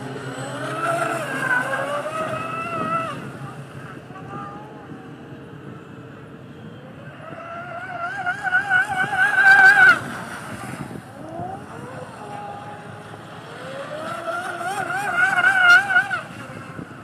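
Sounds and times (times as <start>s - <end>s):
small boat motor whining: 0.0s - 17.0s.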